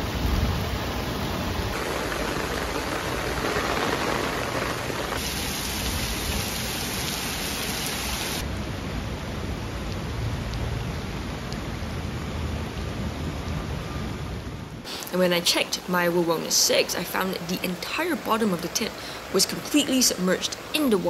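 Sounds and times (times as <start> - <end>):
rain splashing into water: 0.0 - 12.0, 14.9 - 21.0
heavy rain pouring: 0.0 - 13.6, 14.8 - 21.0.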